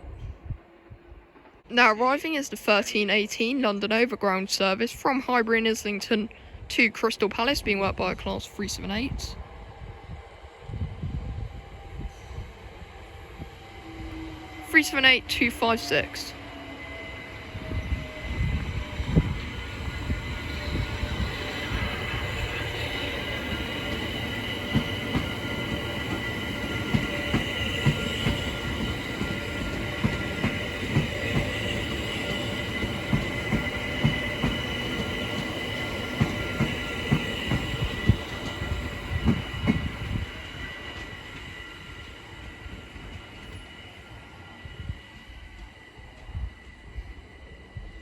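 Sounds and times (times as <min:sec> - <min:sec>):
train high-pitched whine: 0:05.6 - 0:48.0.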